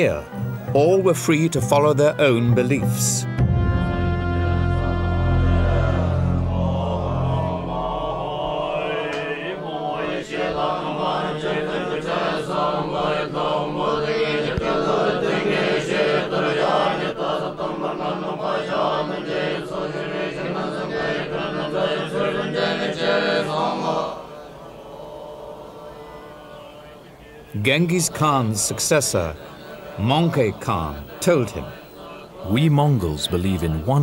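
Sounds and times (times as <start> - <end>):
monks chanting in unison: 5.4 - 34.0.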